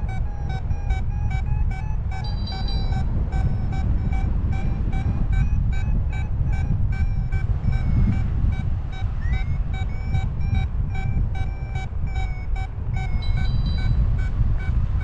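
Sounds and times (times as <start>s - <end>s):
low wind rumble on microphone: 0.0s - 15.0s
variometer short pitched beeps: 0.0s - 15.0s.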